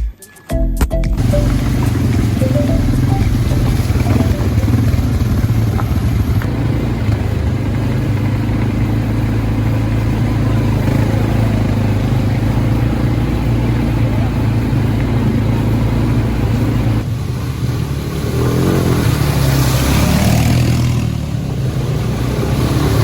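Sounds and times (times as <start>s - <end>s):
quad bike engine running: 1.2s - 23.0s.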